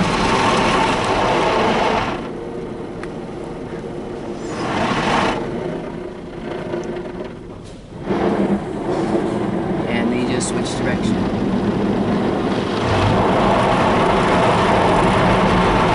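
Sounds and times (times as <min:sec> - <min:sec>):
car wash brushes rushing: 0:00.0 - 0:15.9
low machine hum: 0:00.0 - 0:15.9.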